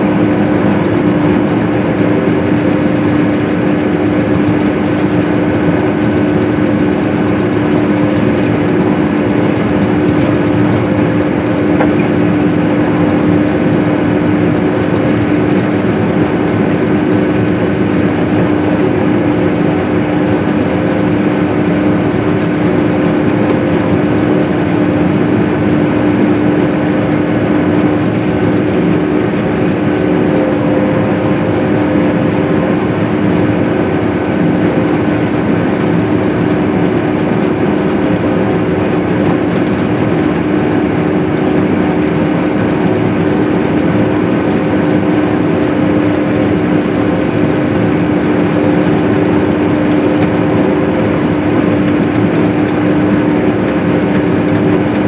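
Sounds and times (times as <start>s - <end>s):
swather engine droning: 0.0s - 55.0s.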